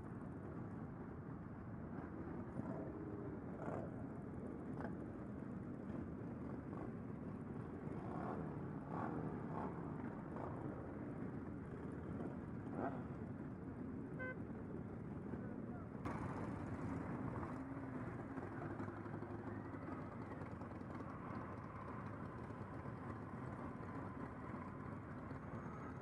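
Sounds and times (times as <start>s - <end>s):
motorcycle engines rumbling: 0.1s - 26.0s
motorcycle engines revving: 2.0s - 26.0s.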